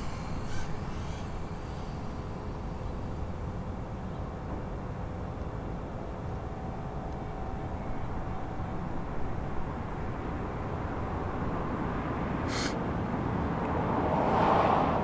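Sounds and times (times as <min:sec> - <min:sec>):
distant quadcopter motors buzzing: 0:00.0 - 0:15.0.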